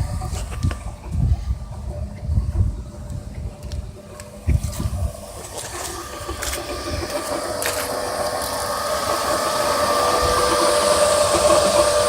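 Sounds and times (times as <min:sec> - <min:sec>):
car engine whining: 0:00.0 - 0:12.0.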